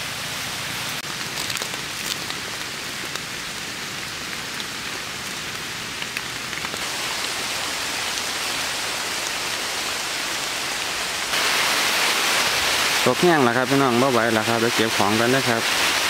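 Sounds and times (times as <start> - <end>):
rain falling on leaves: 0.0 - 16.0.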